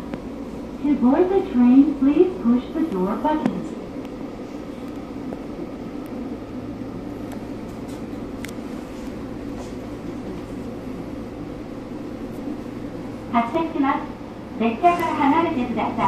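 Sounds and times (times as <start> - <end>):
train equipment humming: 0.0 - 16.0.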